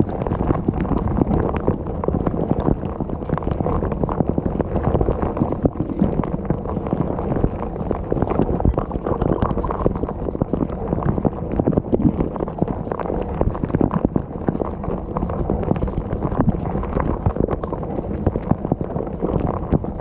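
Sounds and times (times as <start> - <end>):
water churning in dishwasher: 0.0 - 20.0.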